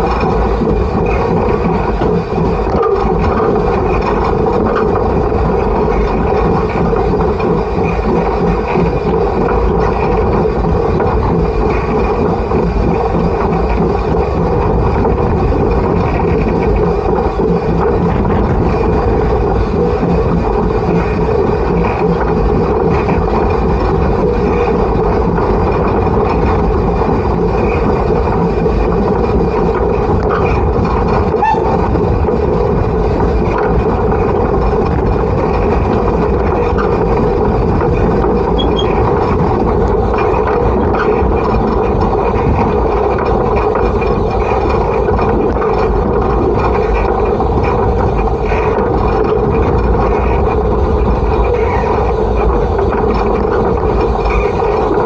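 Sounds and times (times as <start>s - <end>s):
steam locomotive rumbling: 0.0s - 55.0s.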